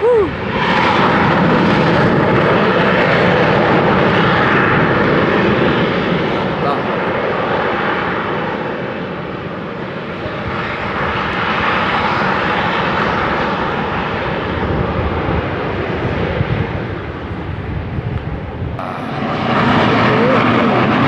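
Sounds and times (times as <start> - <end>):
volcano venting roar: 0.0 - 21.0.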